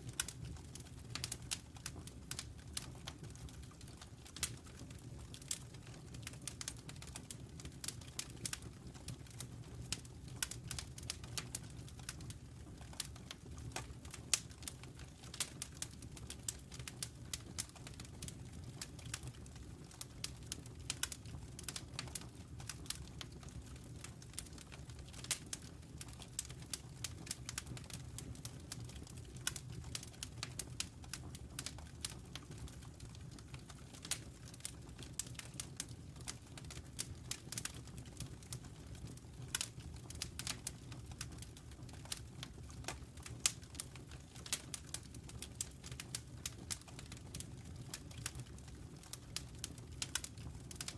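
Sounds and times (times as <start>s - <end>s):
logs crackling and popping: 0.0s - 50.9s
low rumble of flames: 0.0s - 50.9s.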